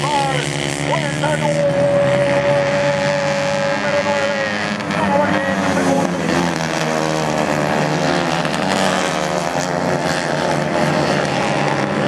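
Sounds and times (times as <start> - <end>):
racing kart engines buzzing: 0.0 - 12.0.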